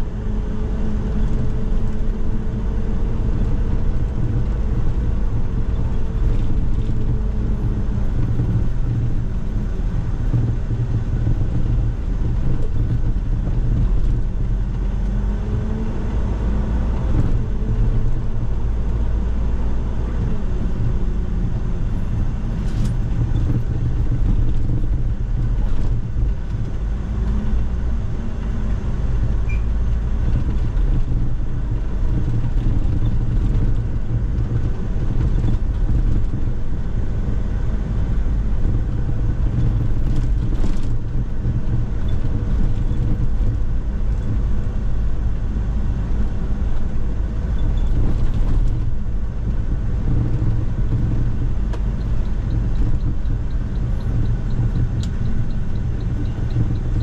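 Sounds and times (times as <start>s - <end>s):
bus engine running: 0.0s - 57.0s
low road rumble: 0.0s - 57.0s.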